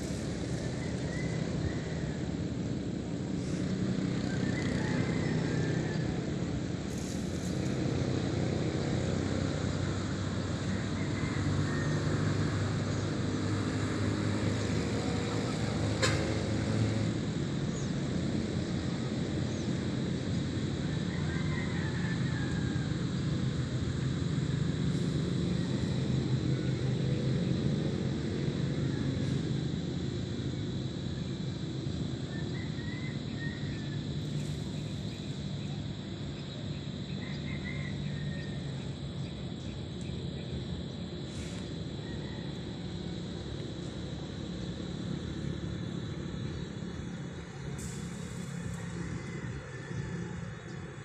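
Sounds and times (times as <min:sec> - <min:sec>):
road traffic rumble overhead: 0:00.0 - 0:51.0.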